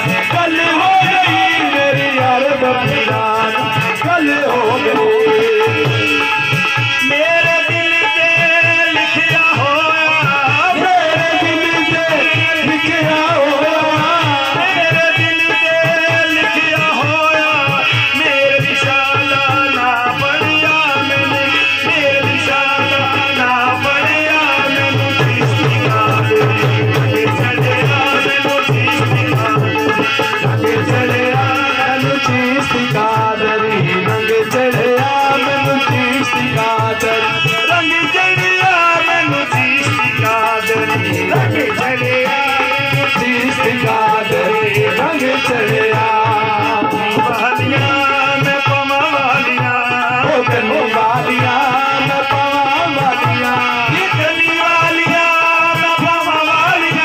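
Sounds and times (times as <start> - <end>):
hand drum beat: 0.0 - 57.0
harmonium: 0.0 - 57.0
man singing lead: 0.0 - 57.0.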